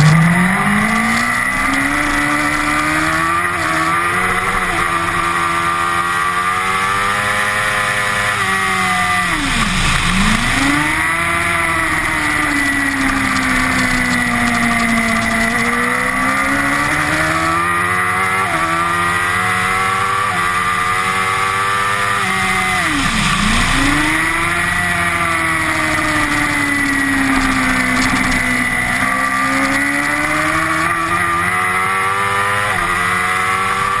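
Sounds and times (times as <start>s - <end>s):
motorcycle race engine revving: 0.0s - 34.0s.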